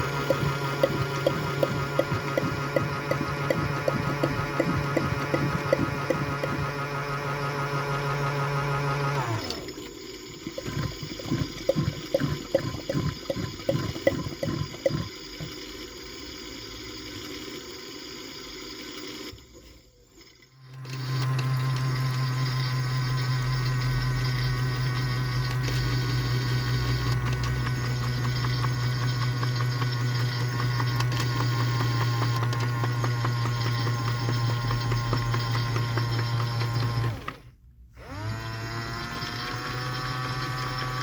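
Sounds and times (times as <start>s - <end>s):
washing machine humming: 0.0s - 18.4s, 20.6s - 41.0s.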